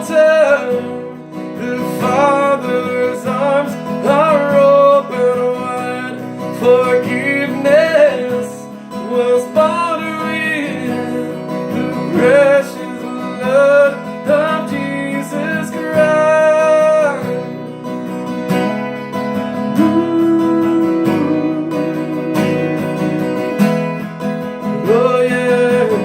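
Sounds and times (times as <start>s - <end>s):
man singing: 0.0s - 17.7s, 19.5s - 23.8s, 24.5s - 26.0s
strummed acoustic guitar: 0.0s - 26.0s.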